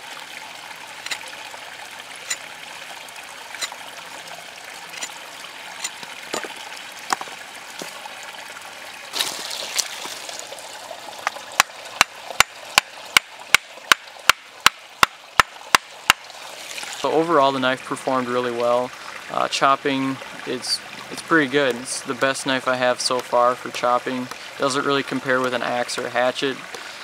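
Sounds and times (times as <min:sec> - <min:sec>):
stream trickling: 0:00.0 - 0:27.0.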